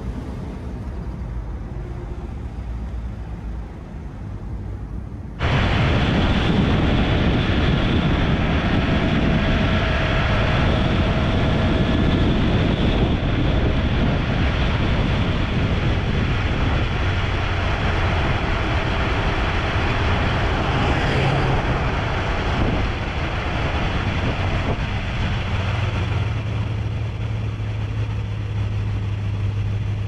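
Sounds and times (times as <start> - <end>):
car engine cruising: 0.0 - 30.0
tyre and road noise: 0.0 - 30.0.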